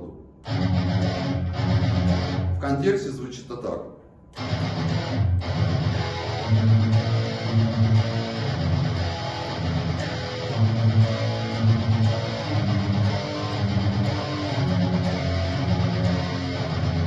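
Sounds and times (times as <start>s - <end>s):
guitar bass-string riff: 0.0s - 2.6s, 4.4s - 17.0s.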